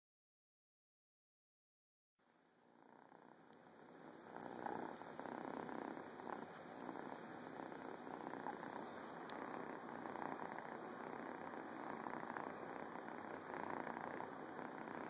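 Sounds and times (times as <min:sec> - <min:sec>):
cat purring: 0:02.6 - 0:15.0.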